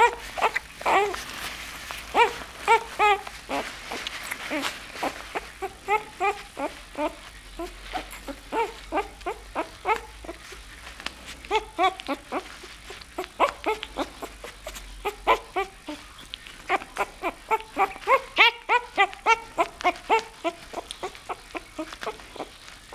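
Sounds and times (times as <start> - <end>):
puppy squeaking: 0.0 - 22.9.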